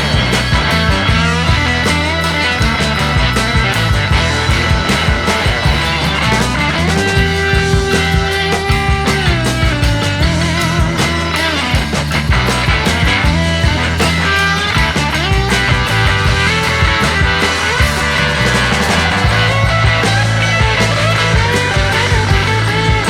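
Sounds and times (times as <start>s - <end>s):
rock music with electric guitar: 0.0s - 23.0s.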